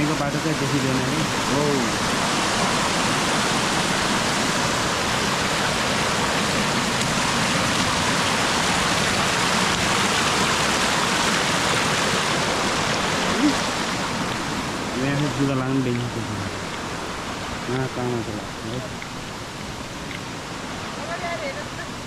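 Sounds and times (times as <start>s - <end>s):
waterfall rushing water: 0.0s - 22.0s.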